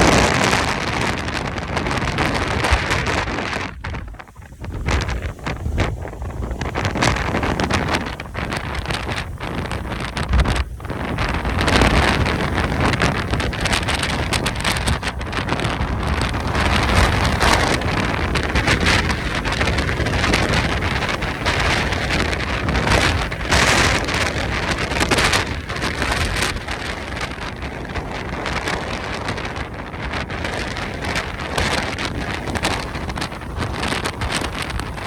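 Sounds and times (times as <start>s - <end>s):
gusty wind buffeting microphone: 0.0s - 35.0s.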